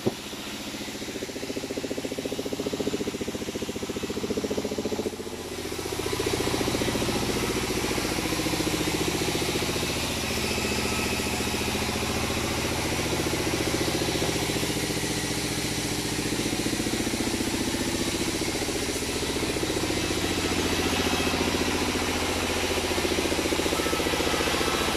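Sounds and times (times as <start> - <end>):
engine droning: 0.0 - 24.9
machinery hiss: 0.0 - 24.9.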